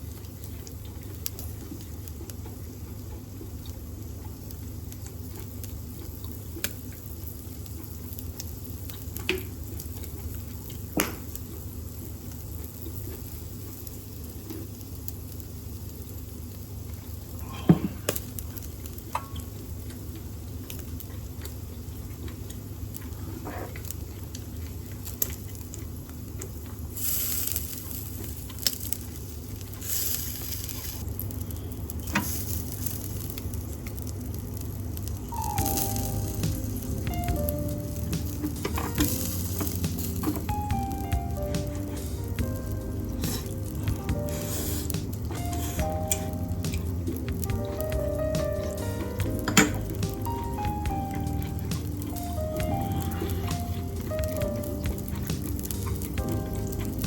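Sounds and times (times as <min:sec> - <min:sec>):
meat sizzling on a grill: 0:00.0 - 0:57.0
range-hood fan hum: 0:00.0 - 0:57.0.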